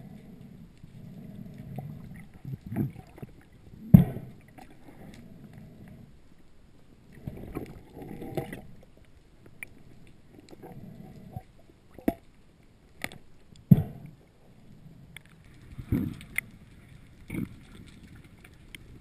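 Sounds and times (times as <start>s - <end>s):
muffled underwater water movement: 0.0s - 19.0s.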